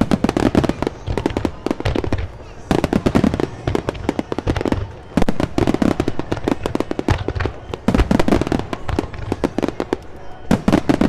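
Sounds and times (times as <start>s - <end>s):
deep fireworks booms: 0.0s - 11.0s
fireworks cracks and pops: 0.0s - 11.0s.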